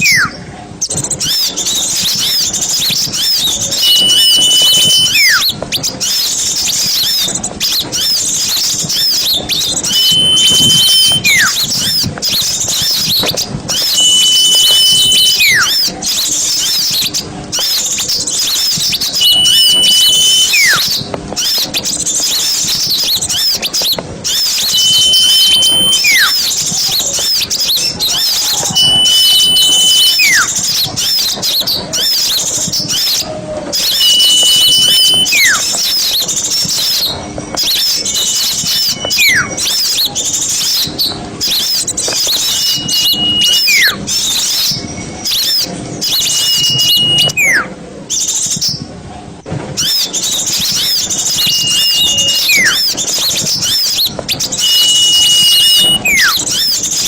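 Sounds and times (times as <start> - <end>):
falling whistle: 0.0 - 6.2, 8.9 - 12.0, 12.8 - 16.0, 18.4 - 21.6, 24.3 - 31.4, 32.0 - 47.8, 49.8 - 56.8
songbirds chirping: 0.0 - 49.0, 49.8 - 57.0.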